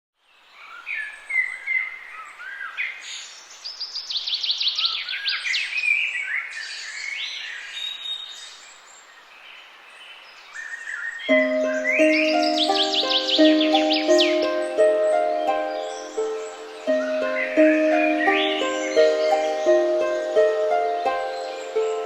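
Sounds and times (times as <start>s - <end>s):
faint forest hiss: 0.2s - 22.0s
birds singing and calling: 0.4s - 22.0s.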